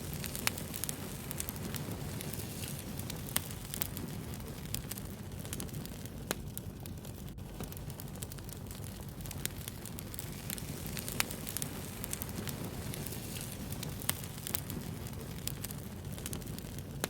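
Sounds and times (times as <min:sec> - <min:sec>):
loud fire snaps: 0:00.0 - 0:17.0
wood fire crackling: 0:00.0 - 0:17.0.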